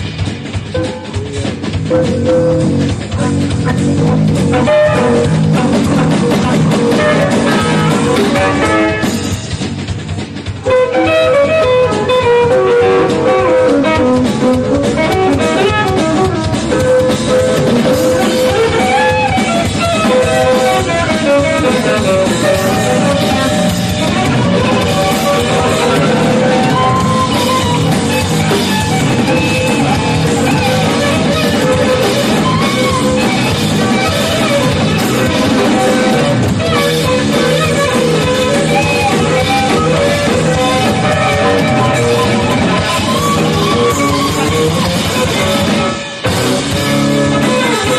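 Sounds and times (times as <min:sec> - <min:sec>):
live band playing rock-jazz: 0:00.0 - 0:47.9.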